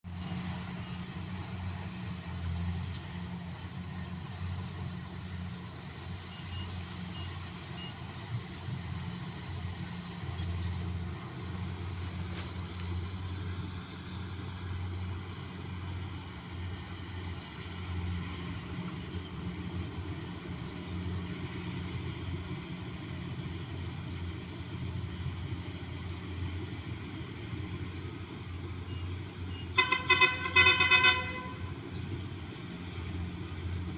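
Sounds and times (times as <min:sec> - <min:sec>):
engine humming: 0:00.0 - 0:33.9.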